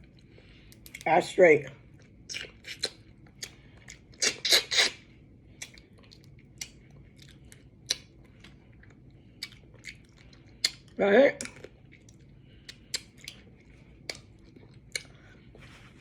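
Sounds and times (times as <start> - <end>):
crunching and chewing: 1.8 - 16.0.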